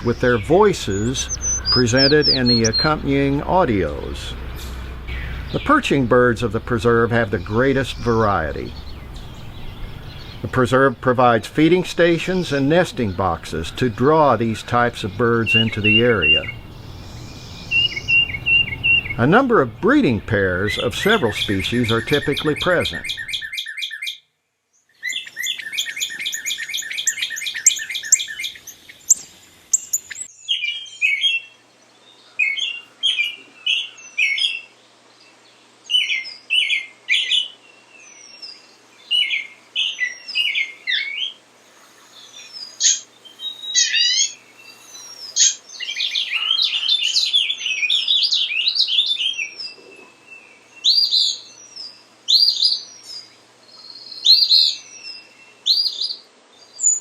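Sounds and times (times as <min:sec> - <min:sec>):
bird chirping phrases: 0:00.0 - 0:57.0.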